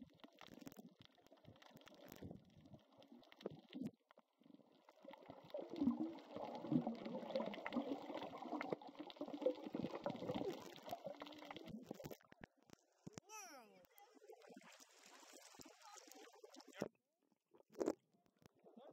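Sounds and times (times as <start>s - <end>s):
underwater bubbling and crackling: 0.0s - 13.2s, 13.9s - 17.0s, 17.6s - 18.8s.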